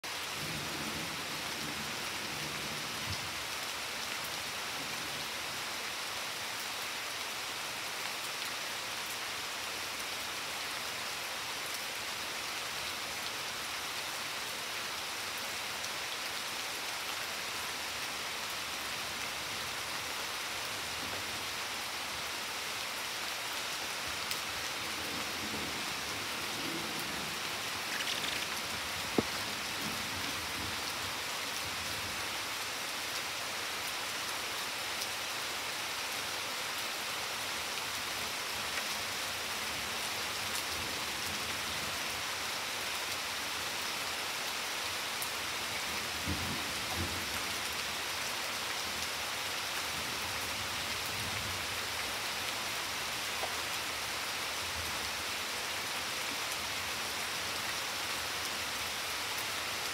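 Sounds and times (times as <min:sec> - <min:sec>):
rain on leaves and paving: 0:00.0 - 0:59.9.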